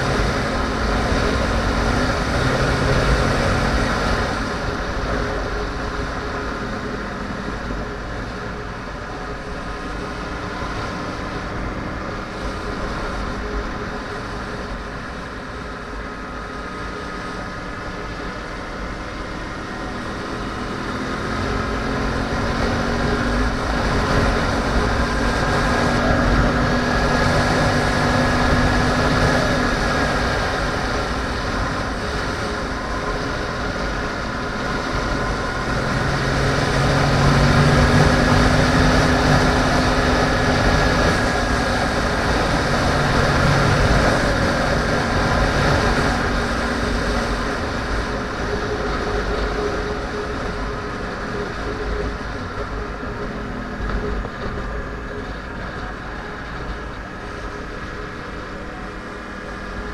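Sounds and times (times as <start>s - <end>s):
wind rush: 0.0s - 59.9s.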